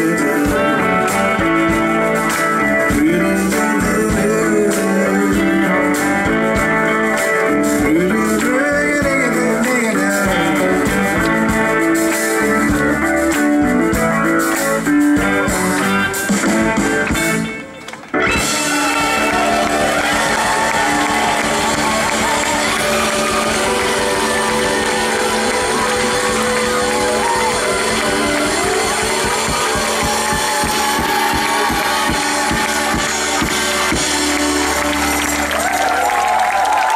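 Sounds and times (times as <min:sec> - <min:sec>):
person singing: 0:00.0 - 0:13.6, 0:18.3 - 0:34.7
live band playing blues-rock: 0:00.0 - 0:36.9.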